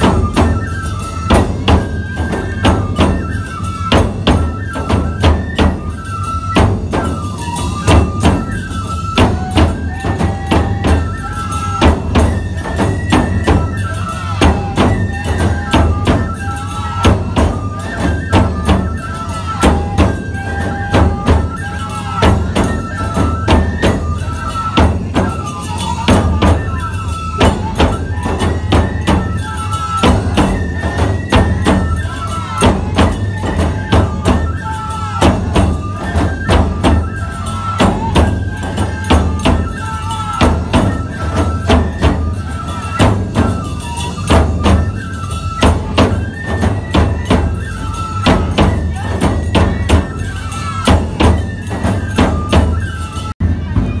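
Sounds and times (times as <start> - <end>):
hand cymbals clashing: 0.0 - 4.9, 5.6 - 53.4
bamboo flutes playing melody: 0.0 - 54.0
pounding drums: 0.0 - 54.0.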